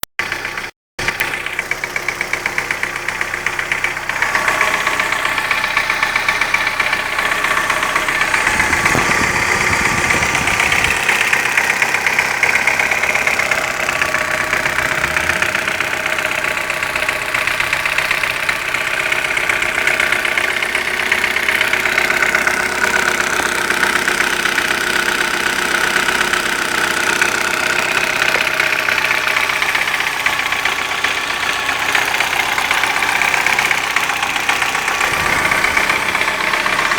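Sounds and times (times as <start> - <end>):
car engine running: 0.2 - 36.9.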